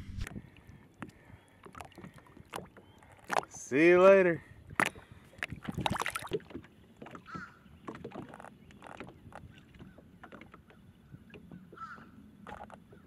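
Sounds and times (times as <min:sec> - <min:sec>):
water lapping against boat hull: 0:00.2 - 0:13.0.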